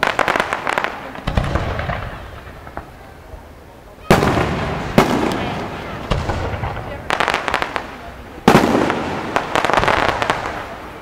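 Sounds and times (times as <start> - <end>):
fireworks bangs with booms: 0.0 - 11.0
fireworks crackling pops: 0.0 - 11.0.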